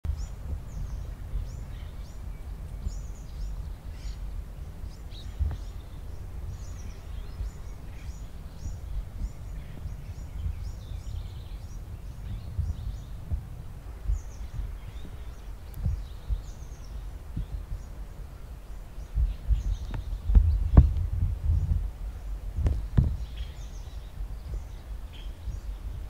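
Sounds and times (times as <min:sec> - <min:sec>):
wind rumble on microphone: 0:00.0 - 0:26.0
small birds chirping: 0:00.1 - 0:26.0.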